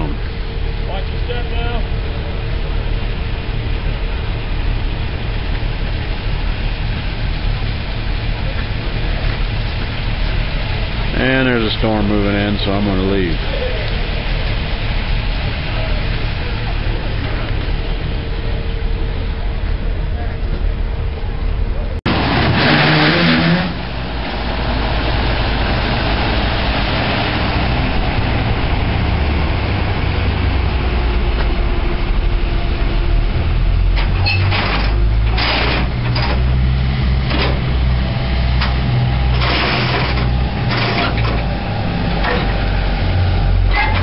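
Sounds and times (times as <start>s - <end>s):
diesel railcar rumbling: 0.0s - 44.0s.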